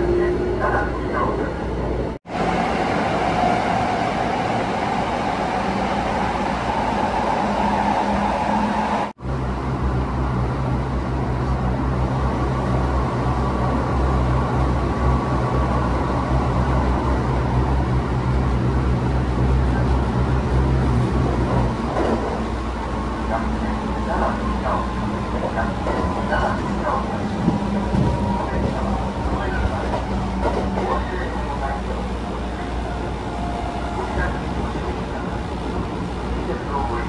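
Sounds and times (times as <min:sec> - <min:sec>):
train rumbling at speed: 0:00.0 - 0:37.0.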